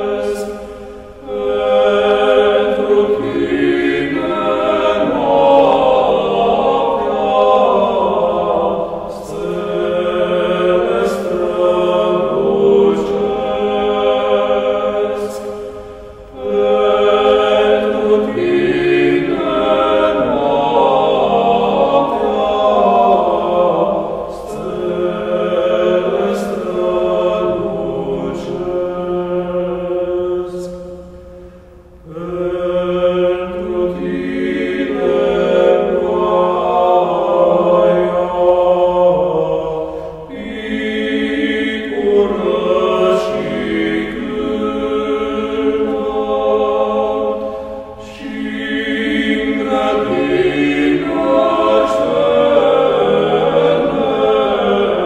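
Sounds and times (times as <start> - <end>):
choir singing chant: 0.0 - 55.0.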